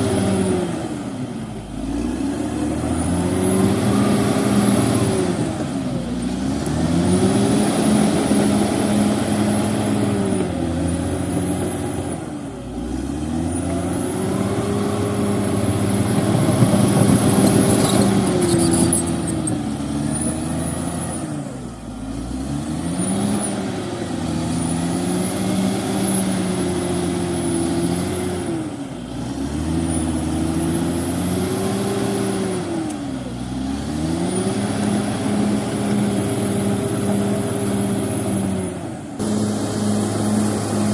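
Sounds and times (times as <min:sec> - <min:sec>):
bulldozer diesel engine under load: 0:00.0 - 0:40.9.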